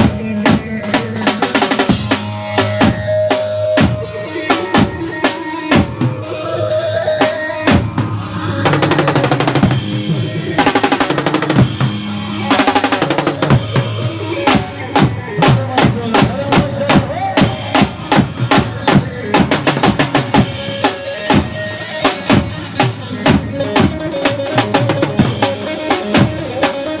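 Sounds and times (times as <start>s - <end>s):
drum kit kick and snare: 0.0s - 27.0s
sustained melody line: 1.9s - 27.0s.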